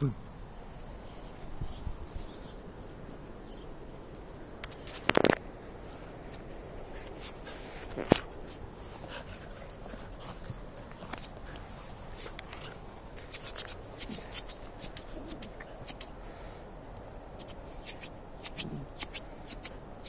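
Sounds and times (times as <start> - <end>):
footsteps swishing through grass: 0.0 - 16.2.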